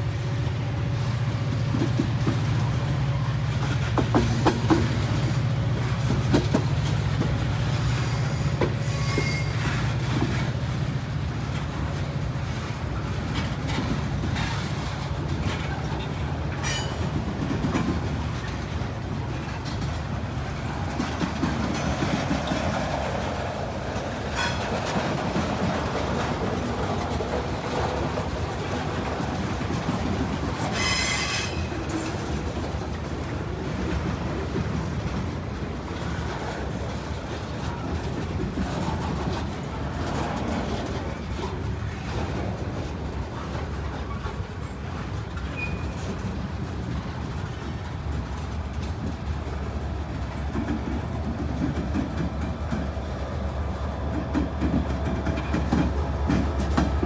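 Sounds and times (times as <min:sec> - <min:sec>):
rail joints clicking and knocking: 0:00.0 - 0:57.0
steel wheels rumbling on rail: 0:00.0 - 0:57.0.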